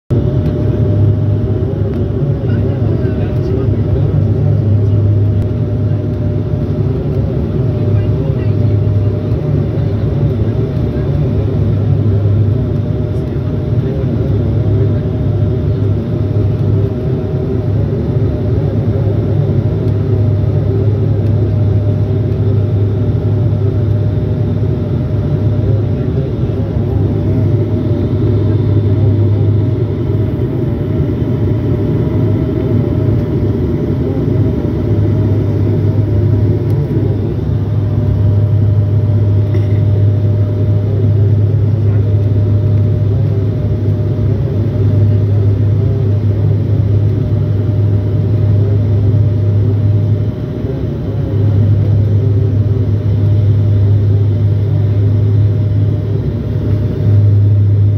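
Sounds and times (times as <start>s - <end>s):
turboprop engine drone: 0.1s - 57.9s.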